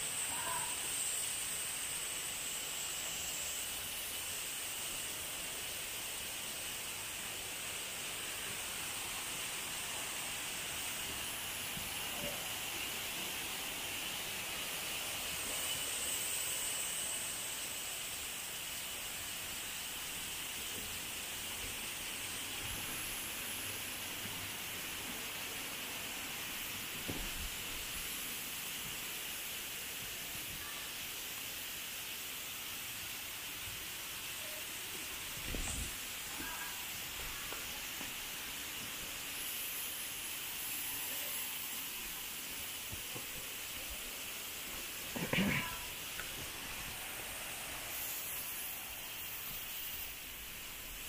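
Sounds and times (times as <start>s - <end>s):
forest ambience hiss: 0.0s - 51.0s.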